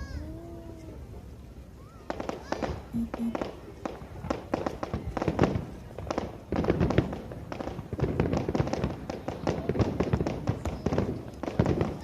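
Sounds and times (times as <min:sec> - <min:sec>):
fireworks bangs and crackles: 0:01.9 - 0:12.0.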